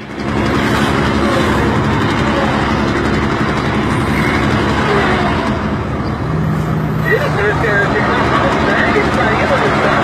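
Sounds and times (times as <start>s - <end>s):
vehicle engine droning: 0.0s - 10.0s
wind and road noise: 0.0s - 10.0s.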